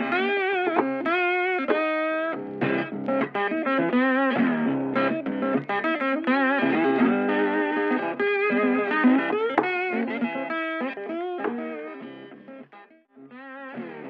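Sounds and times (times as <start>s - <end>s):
guitar music with bending notes: 0.0s - 14.0s.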